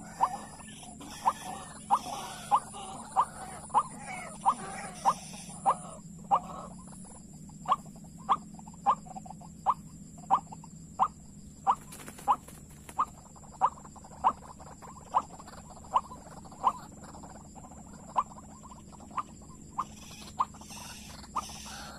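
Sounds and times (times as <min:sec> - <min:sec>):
waterhen calling: 0:00.0 - 0:21.9.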